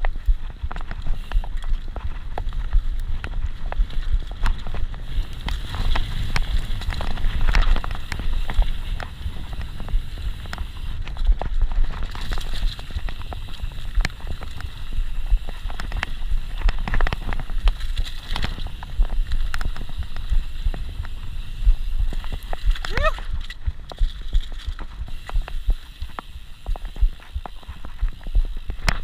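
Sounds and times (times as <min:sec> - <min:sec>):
bike clicks and rattles: 0:00.0 - 0:29.0
bike rumbling on dirt trail: 0:00.0 - 0:29.0
wind buffeting microphone: 0:00.0 - 0:29.0.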